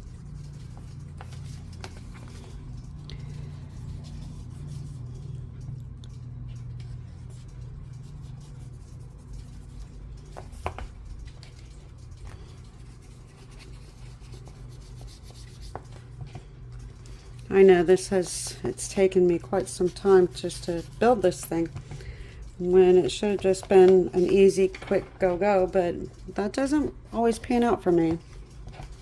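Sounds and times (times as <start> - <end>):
makeup brush rubbing on paper: 0.0 - 5.5, 6.6 - 29.0
steady low hum: 0.0 - 29.0.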